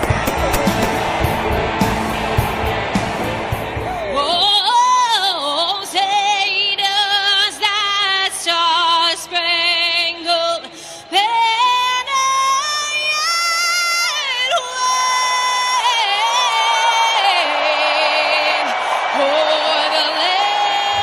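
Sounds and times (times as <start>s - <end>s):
woman singing with vibrato: 4.0s - 21.0s.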